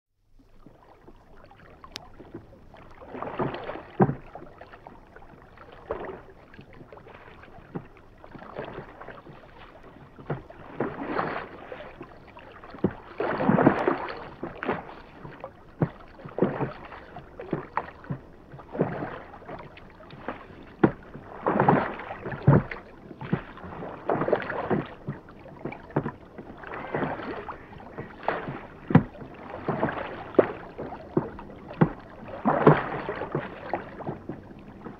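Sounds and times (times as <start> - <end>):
oars splashing in water: 0.4 - 34.9.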